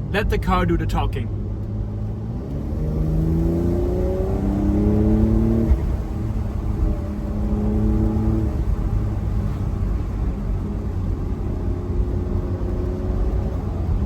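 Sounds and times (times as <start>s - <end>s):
car engine accelerating: 0.0s - 14.0s
low road rumble: 0.0s - 14.0s.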